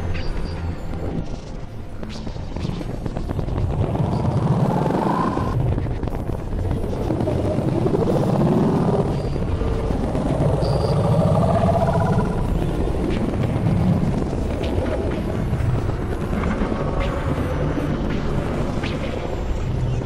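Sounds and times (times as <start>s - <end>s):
dense low drone: 0.0s - 20.0s
warbling gliding tones: 1.1s - 20.0s.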